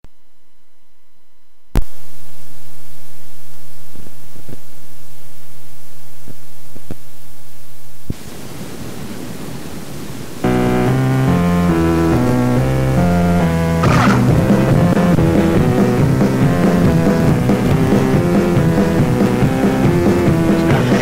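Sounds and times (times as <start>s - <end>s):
electrical hum: 0.0s - 20.8s
tape hiss: 0.1s - 21.0s.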